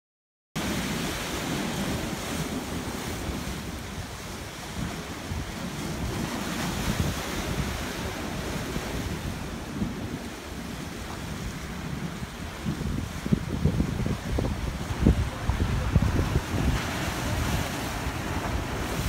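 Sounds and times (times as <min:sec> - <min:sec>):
sea surf washing on shore: 0:00.6 - 0:19.0
wind buffeting microphone: 0:00.6 - 0:19.0.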